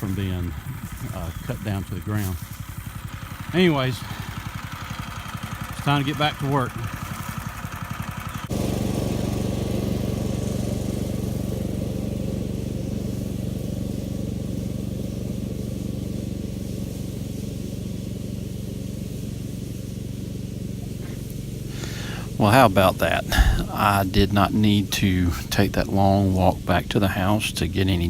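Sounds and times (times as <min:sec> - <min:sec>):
brush mower engine running: 0:00.0 - 0:28.0.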